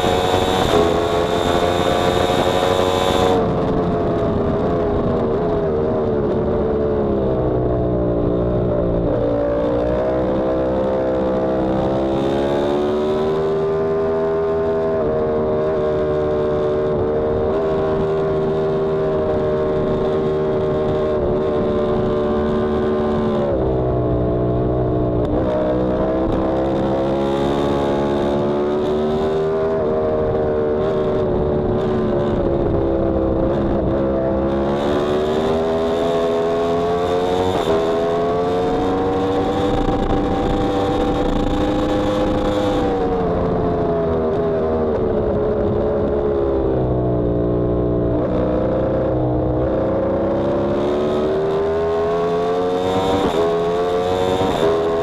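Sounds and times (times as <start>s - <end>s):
rushing wind noise: 0.0s - 13.1s, 14.8s - 55.0s
motorcycle engine running hard: 0.0s - 55.0s.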